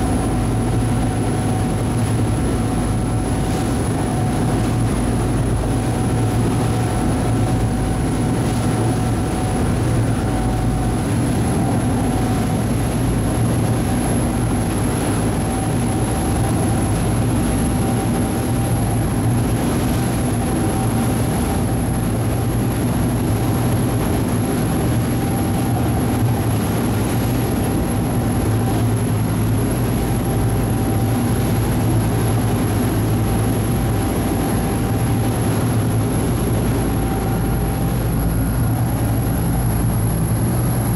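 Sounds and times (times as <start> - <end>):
ferry engine drone: 0.0 - 40.9.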